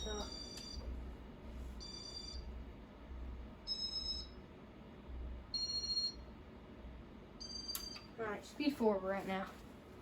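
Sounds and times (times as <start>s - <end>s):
ceiling fan humming: 0.0s - 10.0s.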